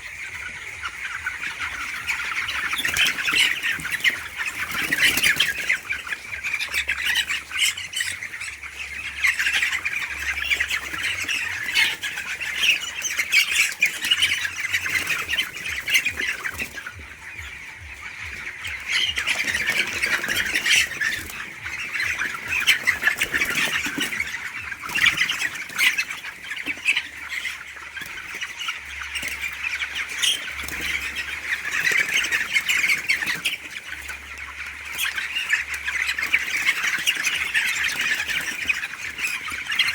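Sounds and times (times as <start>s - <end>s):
young poultry peeping: 0.0s - 39.9s.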